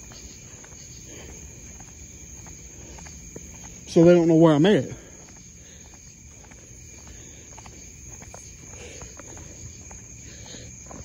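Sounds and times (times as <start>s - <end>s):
crickets trilling: 0.0s - 11.0s
footsteps on paved road: 0.0s - 11.0s.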